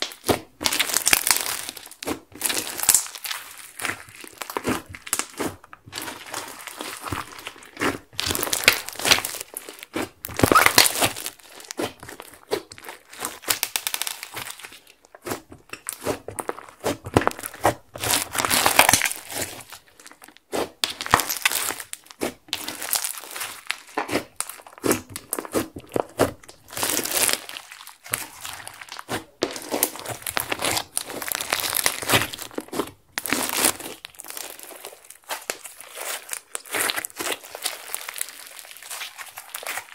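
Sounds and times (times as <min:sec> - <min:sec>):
slime crackling and popping: 0:00.0 - 0:39.9
slime squishing: 0:00.0 - 0:39.9.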